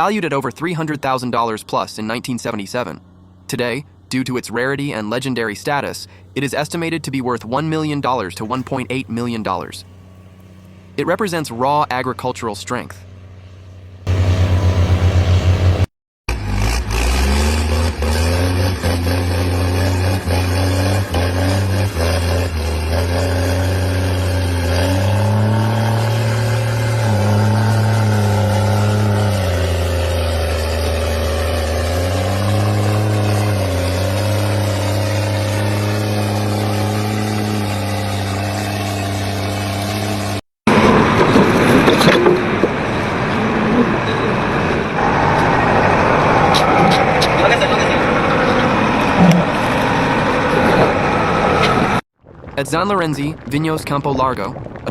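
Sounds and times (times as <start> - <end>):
tractor engine revving: 0.0 - 52.0.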